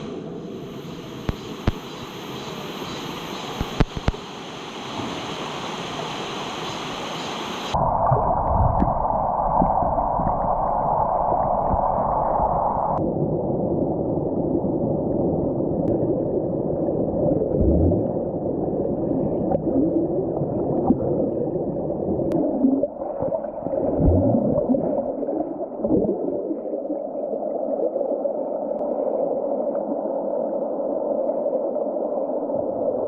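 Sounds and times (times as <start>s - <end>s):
muffled stream water rushing: 0.0s - 13.0s, 15.9s - 33.0s.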